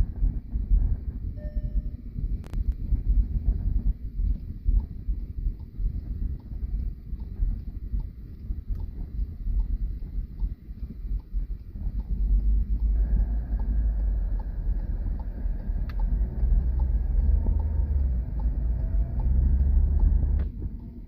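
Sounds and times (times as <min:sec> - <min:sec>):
car engine and tyres rumbling: 0:00.0 - 0:21.0
faint regular ticking: 0:00.2 - 0:21.0.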